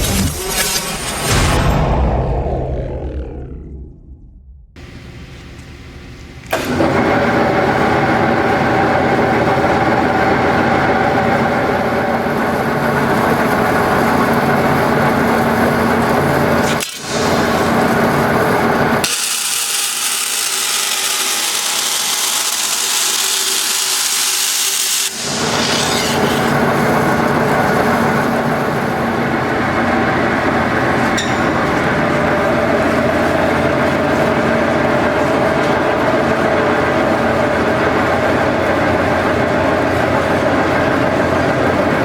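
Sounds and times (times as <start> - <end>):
band saw running: 6.5 - 42.0.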